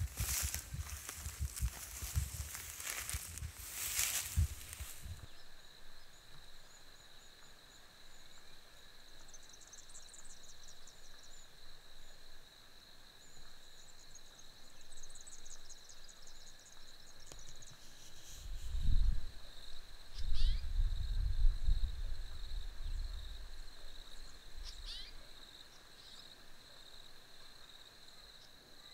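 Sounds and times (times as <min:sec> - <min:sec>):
insects droning: 0:00.0 - 0:28.9
rapid high insect chirping: 0:00.0 - 0:28.9.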